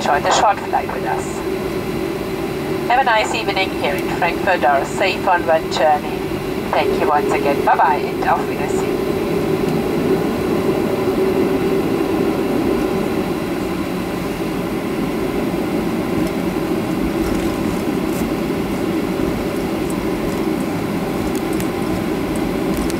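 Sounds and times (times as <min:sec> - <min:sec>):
airliner wheels rumbling on taxiway: 0:00.0 - 0:22.9
jet engines idling: 0:00.0 - 0:22.9.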